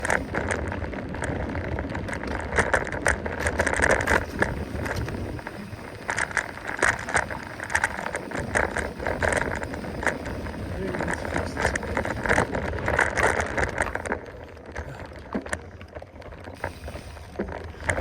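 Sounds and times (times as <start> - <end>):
mountain bike rattling and clicking: 0.0 - 18.0
wind rumbling on microphone: 0.0 - 18.0.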